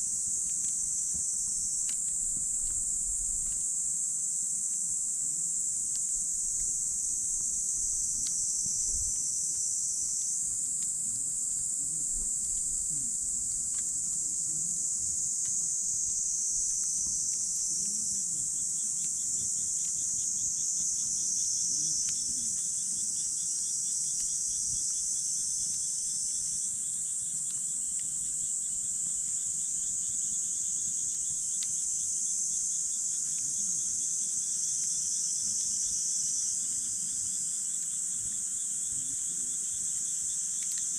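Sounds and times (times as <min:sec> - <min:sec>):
campfire crackling: 0:00.1 - 0:35.1, 0:36.9 - 0:40.9.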